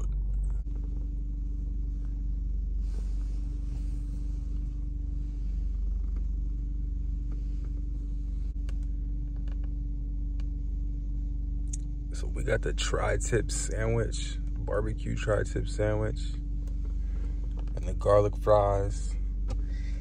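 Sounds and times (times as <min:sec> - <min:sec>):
car idling rumble: 0:00.0 - 0:20.0.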